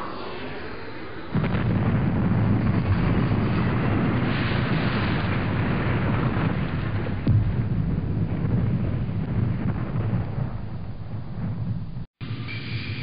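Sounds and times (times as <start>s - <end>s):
deep blast with loud rumble: 1.3s - 12.1s.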